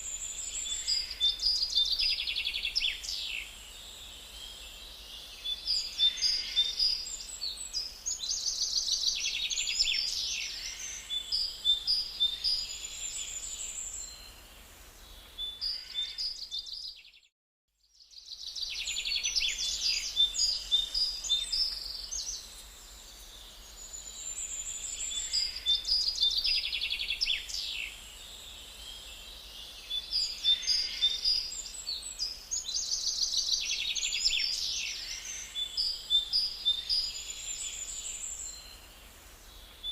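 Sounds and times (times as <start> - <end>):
songbirds chirping and singing: 0.1 - 14.2, 18.1 - 39.9.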